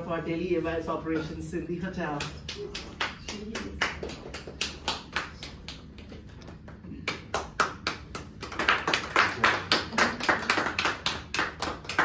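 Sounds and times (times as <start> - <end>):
people clapping: 2.1 - 12.0.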